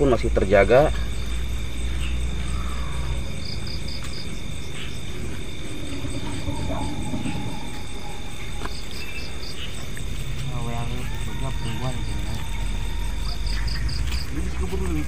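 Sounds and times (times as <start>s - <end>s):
crickets chirring: 0.0s - 15.0s
high pulsing chirp: 0.0s - 15.0s
low rumbling background noise: 0.0s - 15.0s.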